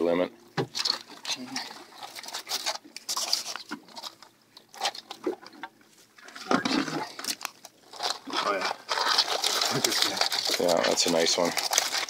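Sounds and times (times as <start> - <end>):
crabs scrabbling in wire trap: 0.7 - 5.5, 6.4 - 12.0
rustle of handling: 0.7 - 12.0.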